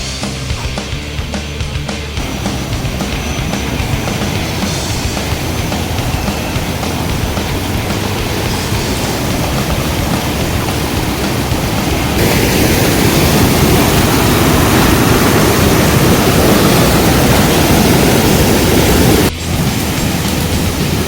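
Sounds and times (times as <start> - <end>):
loud rushing noise: 0.0 - 21.0.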